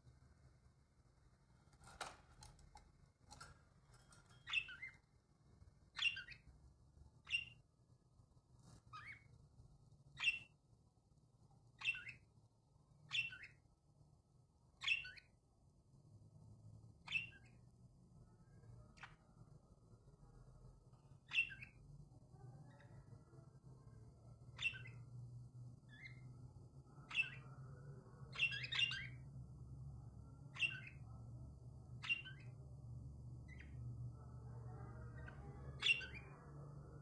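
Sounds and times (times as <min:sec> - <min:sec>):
bird chirping: 0:02.0 - 0:07.9, 0:08.6 - 0:10.7, 0:11.4 - 0:13.8, 0:14.7 - 0:15.5, 0:16.8 - 0:37.0.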